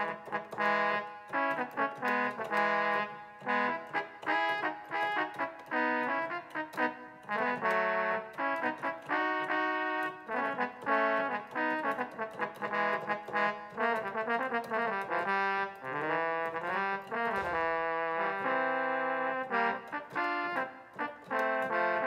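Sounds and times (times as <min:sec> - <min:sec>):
synthesizer brass chords: 0:00.0 - 0:22.0.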